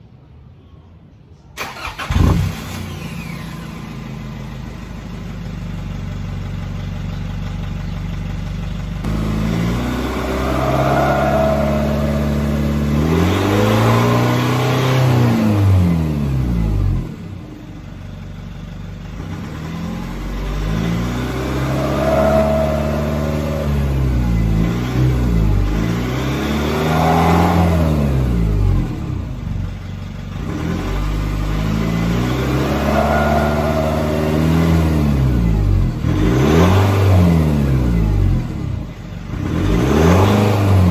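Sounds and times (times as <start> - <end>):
unmuffled engine revving: 1.6 - 4.4, 9.0 - 40.9.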